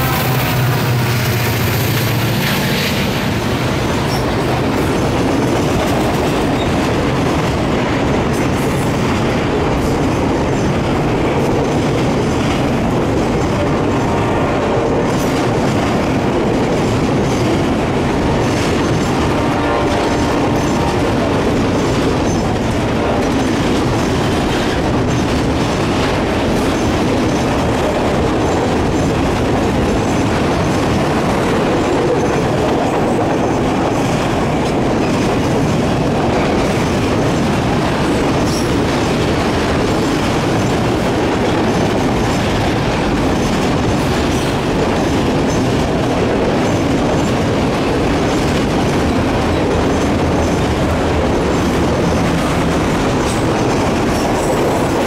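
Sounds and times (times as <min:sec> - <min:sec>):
train wheels rumbling on rails: 0:00.0 - 0:55.0
wheels clacking over rail joints: 0:00.0 - 0:55.0.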